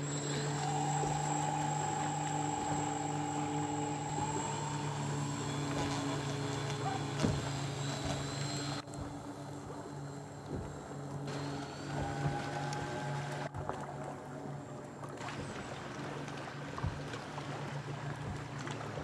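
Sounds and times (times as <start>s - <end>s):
electric motors and propellers whining: 0.0s - 19.0s.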